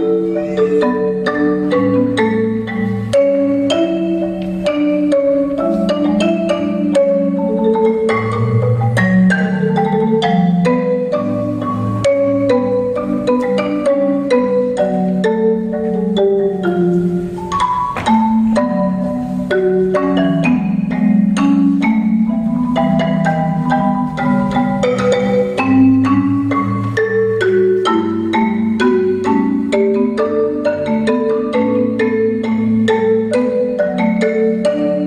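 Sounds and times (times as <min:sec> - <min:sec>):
marimba played with mallets: 0:00.0 - 0:35.0.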